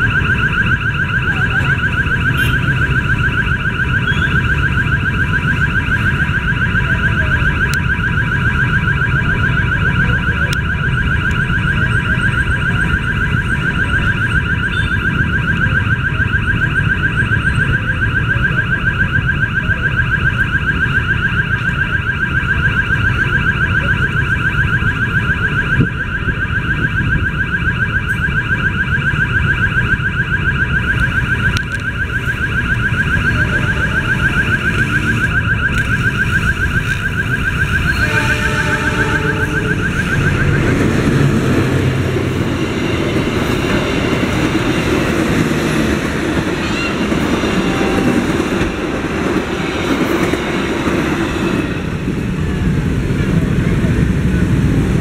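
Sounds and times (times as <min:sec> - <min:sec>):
idling traffic rumble: 0:00.0 - 0:55.0
level-crossing alarm ringing: 0:00.0 - 0:55.0.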